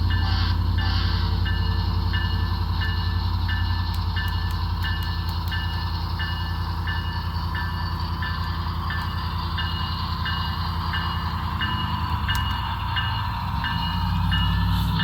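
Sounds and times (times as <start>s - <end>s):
locomotive bell ringing: 0.0s - 15.0s
model locomotive engine rumble: 0.0s - 15.0s.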